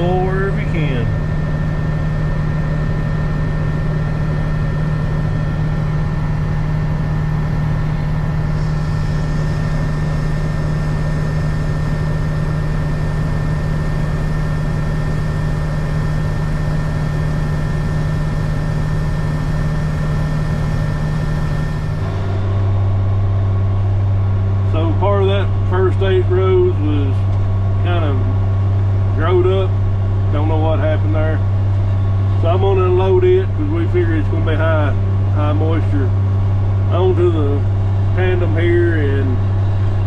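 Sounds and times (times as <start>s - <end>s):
combine harvester drone: 0.0s - 40.0s.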